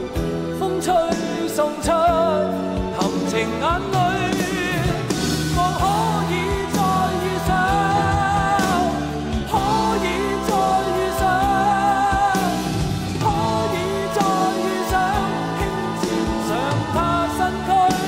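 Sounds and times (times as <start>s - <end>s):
band playing: 0.0s - 18.0s
drum beats: 0.0s - 18.0s
man singing into microphone: 0.5s - 18.0s.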